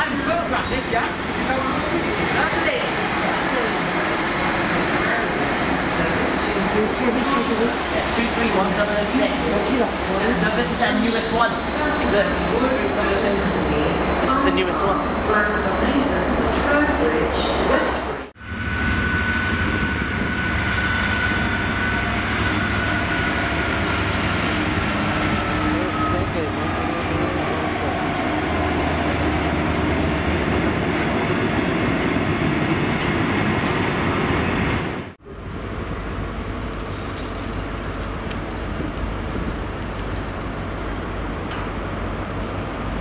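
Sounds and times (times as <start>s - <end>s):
rumble of trains on tracks: 0.0s - 43.0s.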